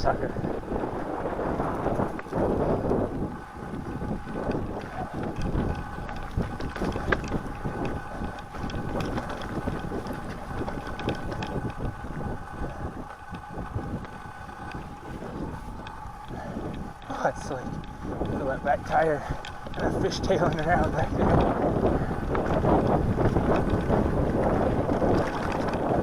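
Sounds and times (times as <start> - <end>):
bike rattling and knocking: 0.0 - 26.0
bike tyres rumbling on snow and mud: 0.0 - 26.0
wind buffeting microphone: 0.0 - 26.0.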